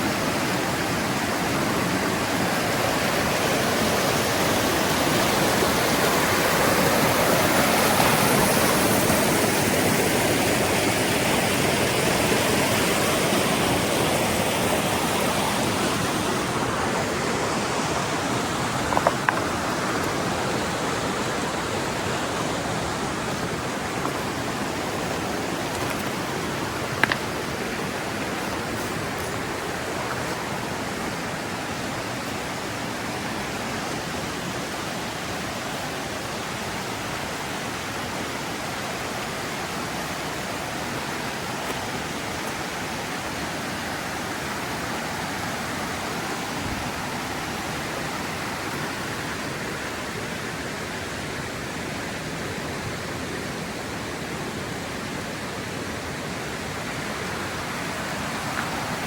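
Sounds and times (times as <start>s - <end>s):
rushing river water: 0.0s - 59.0s.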